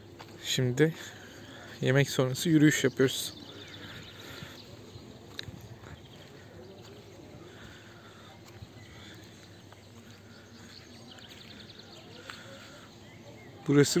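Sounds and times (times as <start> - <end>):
faint bird chirps: 2.4 - 14.0.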